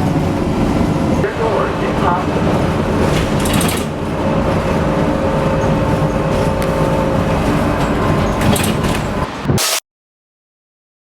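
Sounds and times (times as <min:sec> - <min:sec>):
train rumbling and rattling: 0:00.0 - 0:09.6.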